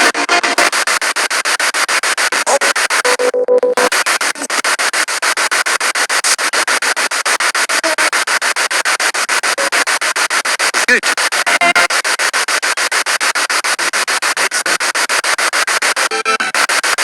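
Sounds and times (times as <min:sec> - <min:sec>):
radio static bursts: 0:00.0 - 0:17.0
snatches of broadcast sound: 0:00.0 - 0:17.0.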